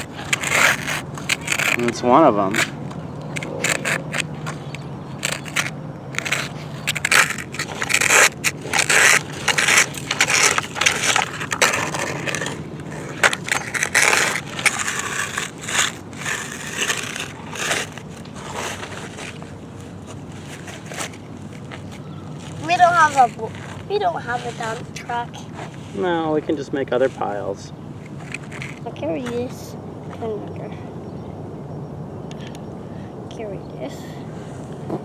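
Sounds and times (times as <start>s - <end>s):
toy vehicles scraping through sand: 0.0s - 26.4s, 27.1s - 29.6s.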